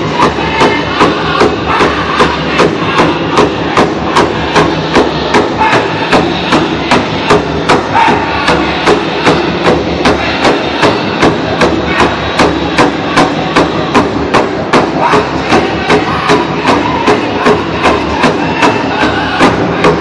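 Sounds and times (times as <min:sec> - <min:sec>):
people singing: 0:00.0 - 0:13.9, 0:15.0 - 0:20.0
bass drum steady beat: 0:00.0 - 0:20.0.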